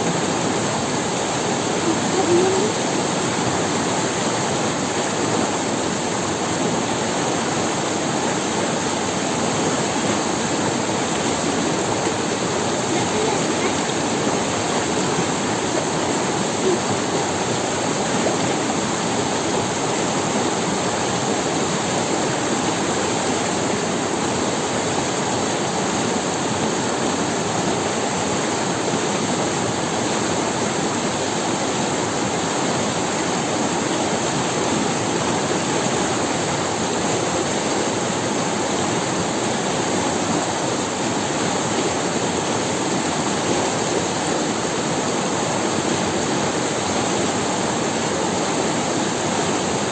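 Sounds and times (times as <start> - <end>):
river rushing over stones: 0.0 - 49.9.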